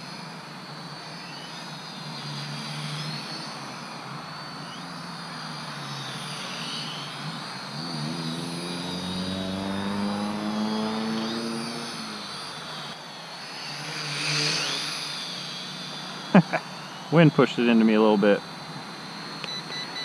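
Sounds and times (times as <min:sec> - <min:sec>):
toy quadcopter propellers buzzing: 0:00.0 - 0:20.0.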